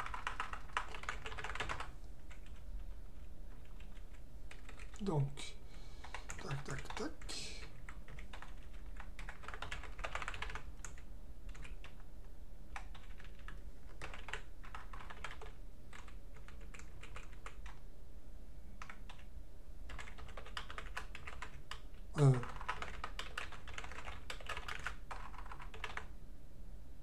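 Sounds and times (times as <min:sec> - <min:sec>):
typing on computer keyboard: 0:00.0 - 0:02.6, 0:03.5 - 0:05.0, 0:06.0 - 0:12.1, 0:12.7 - 0:17.8, 0:18.8 - 0:19.3, 0:19.9 - 0:26.1
low steady hum: 0:00.0 - 0:27.0.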